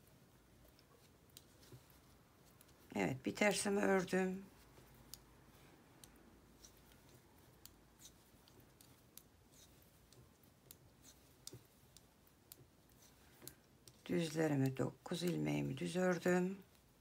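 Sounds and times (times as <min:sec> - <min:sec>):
knitting needles clicking: 0:00.0 - 0:17.0.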